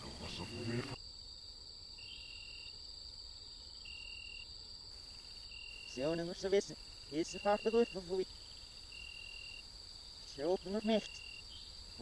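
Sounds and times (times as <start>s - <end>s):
insect chirp: 0.0s - 12.0s
insects trilling: 0.0s - 12.0s.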